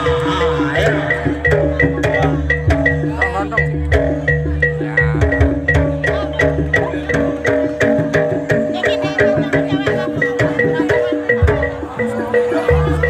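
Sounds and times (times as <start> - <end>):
drum strokes: 0.0 - 13.0
struck metallophones melody: 0.0 - 13.0.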